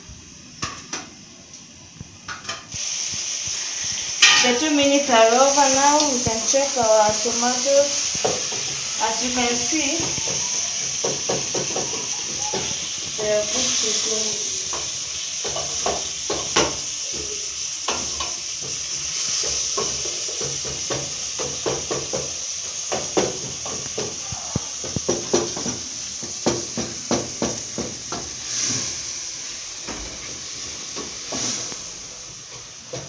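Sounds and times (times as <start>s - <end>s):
vegetables sizzling in pot: 0.0s - 33.0s.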